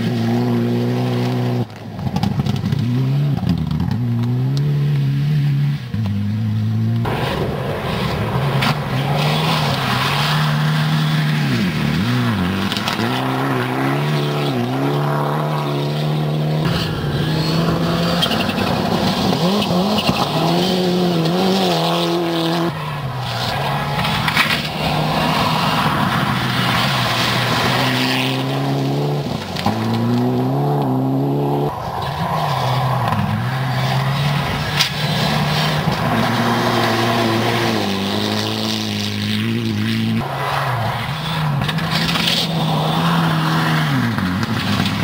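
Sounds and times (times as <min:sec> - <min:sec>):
tyres on gravel: 0:00.0 - 0:04.7, 0:06.9 - 0:45.0
rally car engines revving: 0:00.0 - 0:45.0.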